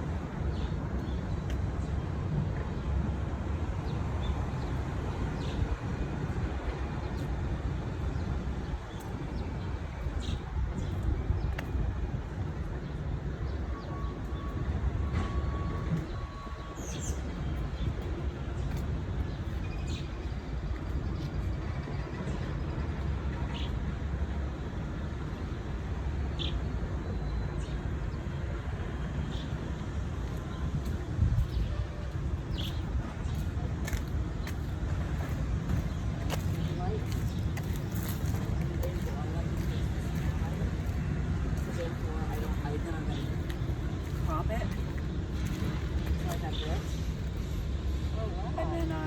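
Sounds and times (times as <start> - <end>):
city traffic rumble: 0.0 - 49.0.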